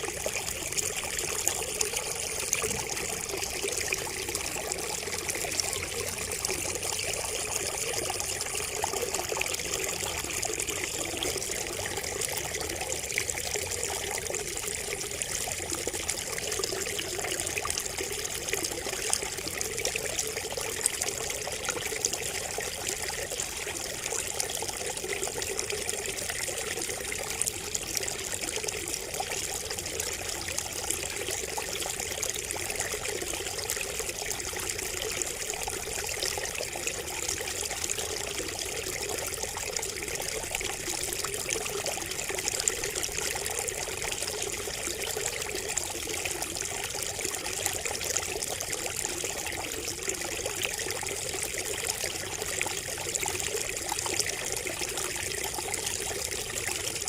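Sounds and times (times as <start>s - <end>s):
water trickling from a spout: 0.0s - 57.0s.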